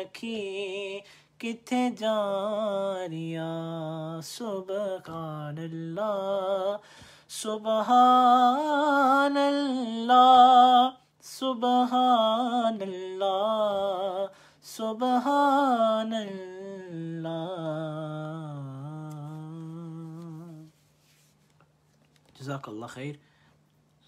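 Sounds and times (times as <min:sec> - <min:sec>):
man singing unaccompanied: 0:00.0 - 0:20.7.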